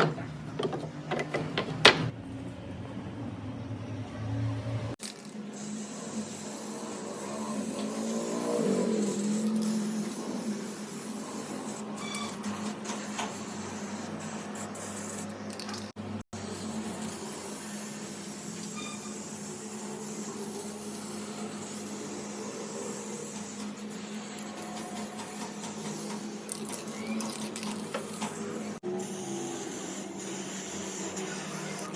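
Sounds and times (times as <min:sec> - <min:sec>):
small motor tool whirring: 0:05.2 - 0:14.0, 0:15.0 - 0:31.9.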